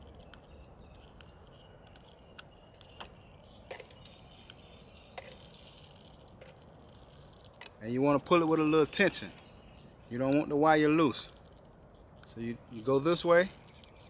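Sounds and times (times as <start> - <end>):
trimmer line clicking and rubbing: 0.0 - 8.4, 10.2 - 14.0.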